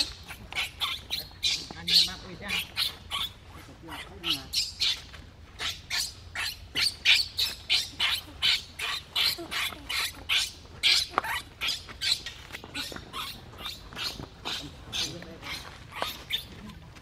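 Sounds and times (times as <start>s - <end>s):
baby macaque squealing: 0.0s - 16.6s.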